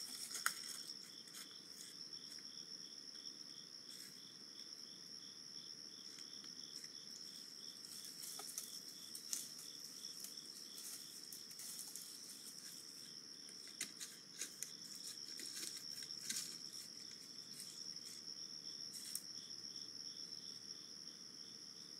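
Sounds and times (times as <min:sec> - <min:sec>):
cricket chirping: 0:00.0 - 0:21.9.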